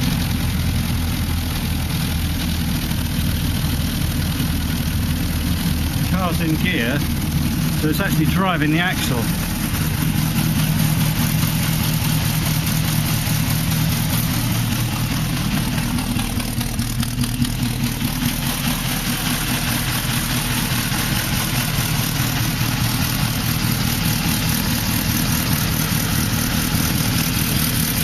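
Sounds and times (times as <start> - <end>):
exhaust blowing: 0.0 - 28.0
petrol engine running: 0.0 - 28.0.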